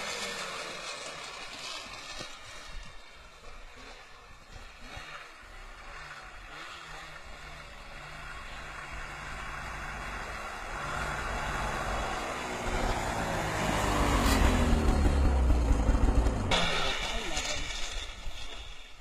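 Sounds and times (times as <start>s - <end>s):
snowmobile engine approaching: 0.0s - 19.0s.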